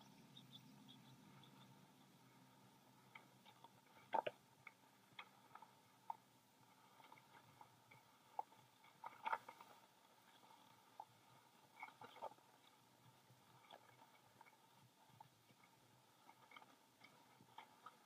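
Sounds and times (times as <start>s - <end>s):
faint clicks and creaks: 0.0s - 18.0s.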